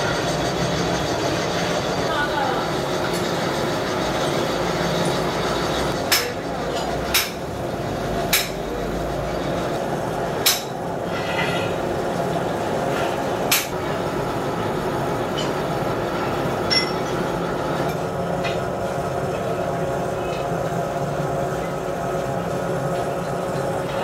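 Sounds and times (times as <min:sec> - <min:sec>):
machine running: 0:00.0 - 0:24.0.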